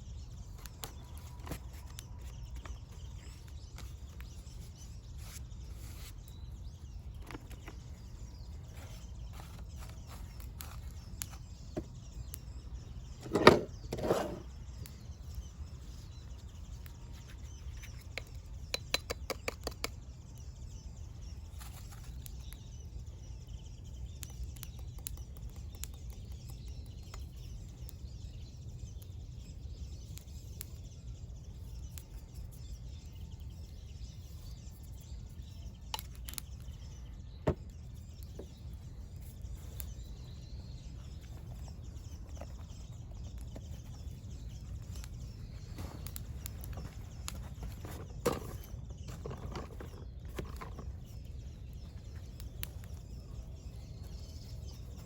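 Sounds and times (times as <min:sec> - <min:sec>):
loud bird calls: 0:00.0 - 0:55.0.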